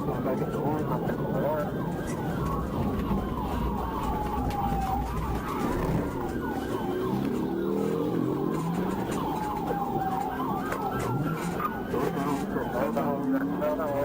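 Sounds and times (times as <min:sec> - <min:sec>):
police sirens wailing and yelping: 0:00.0 - 0:14.0
vehicle engine rumble: 0:00.0 - 0:14.0.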